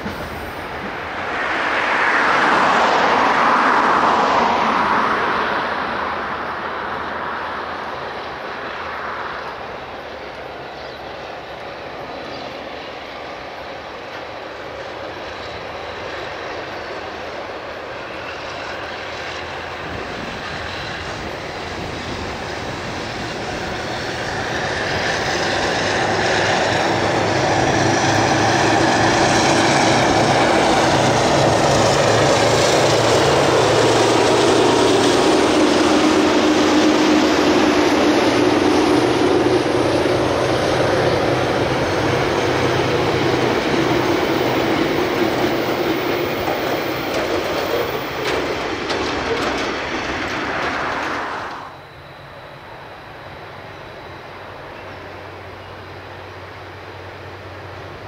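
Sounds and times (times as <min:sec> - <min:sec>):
diesel locomotives working hard: 0:00.0 - 0:58.0.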